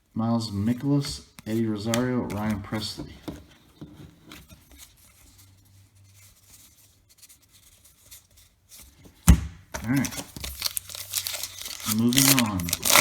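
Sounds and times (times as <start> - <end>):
trading cards rustling by hand: 0.6 - 13.0.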